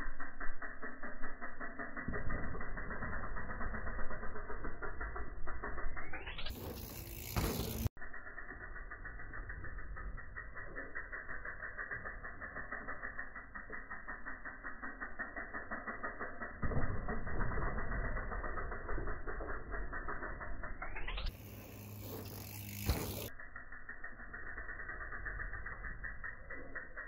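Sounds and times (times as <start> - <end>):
bike tyres rolling on dirt: 0.0 - 27.0
low rumble of landing bike: 0.0 - 27.0.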